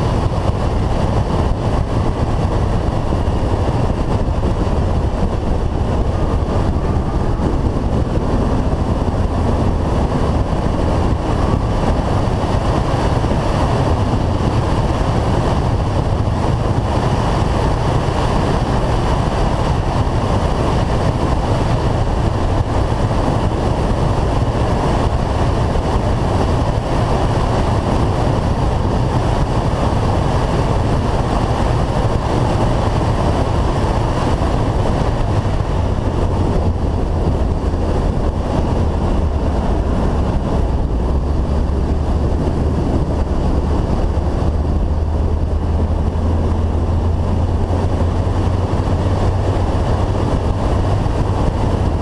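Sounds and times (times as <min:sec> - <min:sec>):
car running noise: 0:00.0 - 0:52.0
wind rushing over camera: 0:00.0 - 0:52.0.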